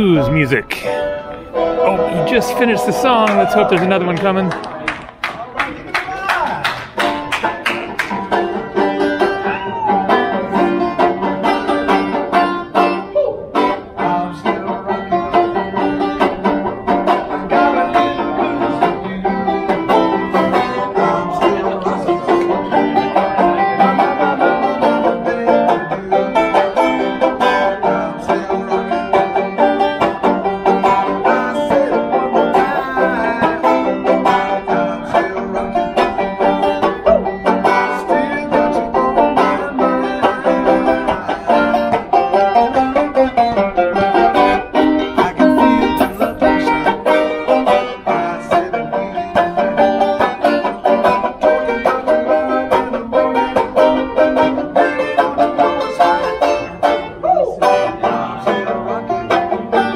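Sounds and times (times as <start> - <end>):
plucked string instrument music: 0.0 - 5.3, 6.7 - 59.9.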